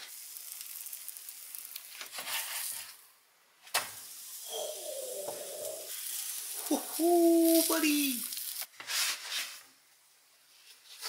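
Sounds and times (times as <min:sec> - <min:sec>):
dough sizzling in oil: 0:00.0 - 0:11.0.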